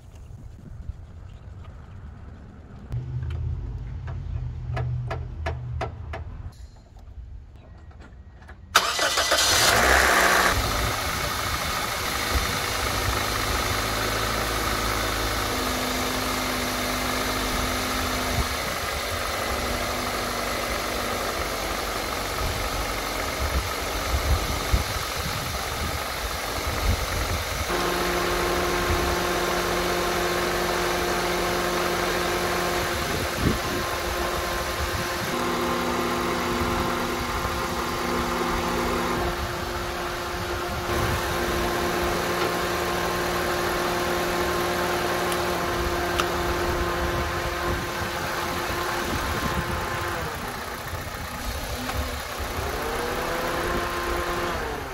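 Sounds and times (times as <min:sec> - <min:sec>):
car engine starting and idling: 0:01.8 - 0:06.6, 0:08.4 - 0:54.9.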